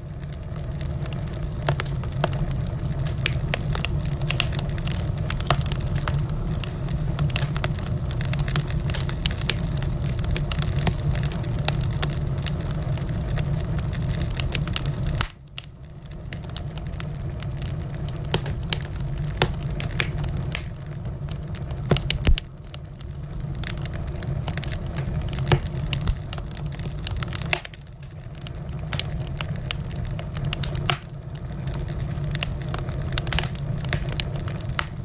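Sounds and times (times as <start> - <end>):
steady low rumble: 0.0 - 35.0
wood fire crackling and popping: 0.0 - 35.0.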